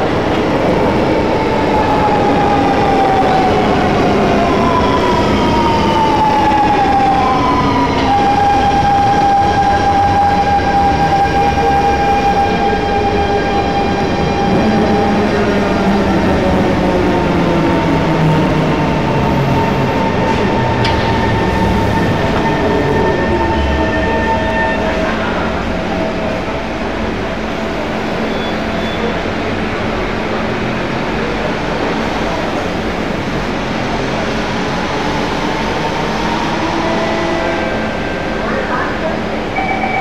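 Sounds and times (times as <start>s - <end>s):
train wheel rumble: 0.0s - 39.6s
train equipment hum and whirr: 0.0s - 40.0s.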